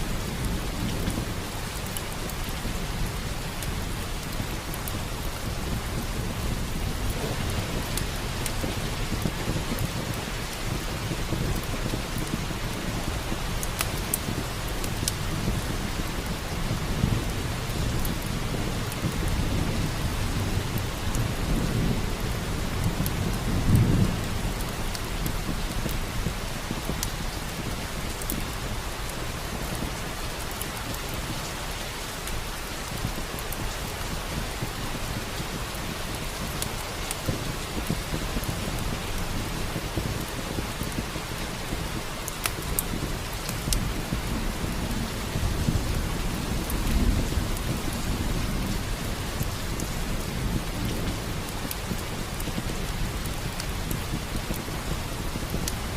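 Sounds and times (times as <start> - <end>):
low rolling thunder: 0.0 - 30.0, 32.8 - 55.9
heavy rain: 0.0 - 55.9
wood fire crackling: 0.0 - 55.9.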